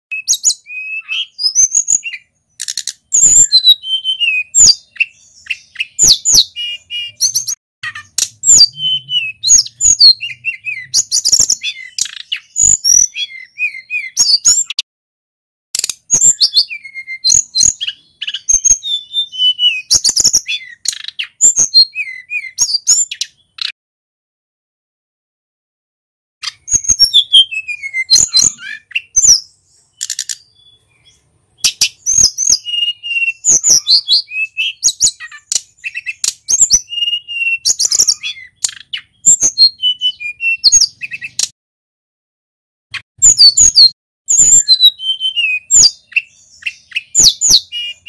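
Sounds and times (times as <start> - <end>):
songbird singing: 0.1 - 14.8, 15.8 - 23.8, 26.4 - 41.6, 42.9 - 48.0.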